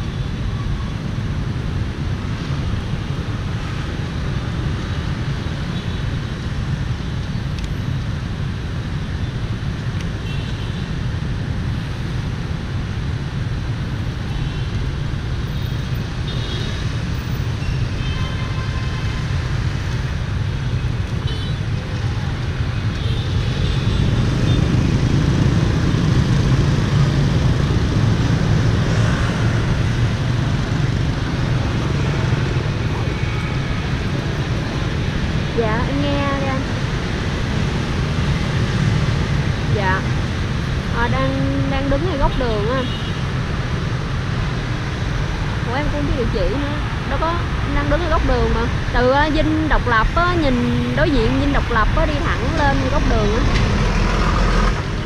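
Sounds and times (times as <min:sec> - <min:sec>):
motorbikes and cars passing: 0:00.0 - 0:55.0.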